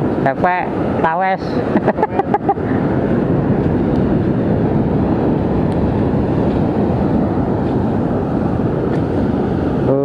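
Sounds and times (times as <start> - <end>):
surf roaring: 0.0 - 10.0
wind buffeting microphone: 0.0 - 10.0.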